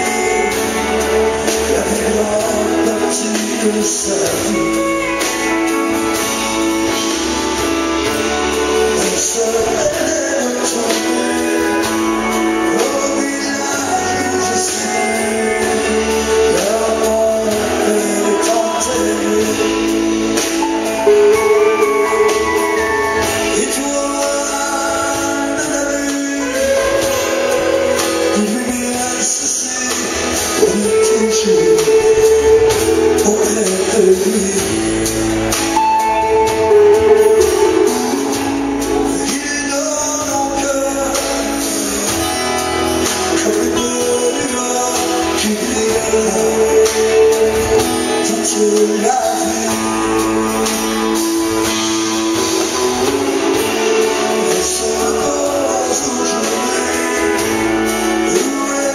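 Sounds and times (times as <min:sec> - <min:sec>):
bass guitar: 0:00.0 - 0:58.9
drums: 0:00.0 - 0:58.9
electric guitar: 0:00.0 - 0:58.9
male lead vocal: 0:00.0 - 0:58.9
man singing: 0:00.0 - 0:58.9
strummed acoustic guitars: 0:00.0 - 0:58.9.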